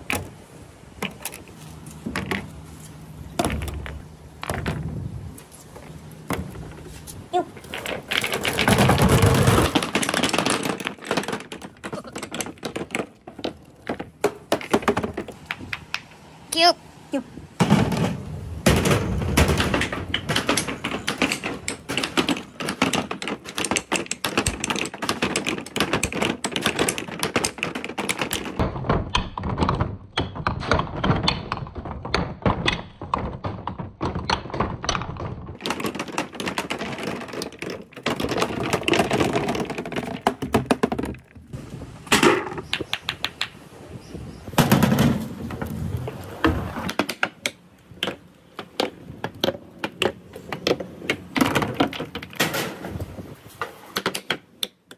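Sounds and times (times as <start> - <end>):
balls clacking against bars: 0.0 - 2.6, 3.3 - 16.7, 17.6 - 43.7, 44.5 - 54.9
glass balls rolling on wood: 0.0 - 16.2, 17.6 - 53.1.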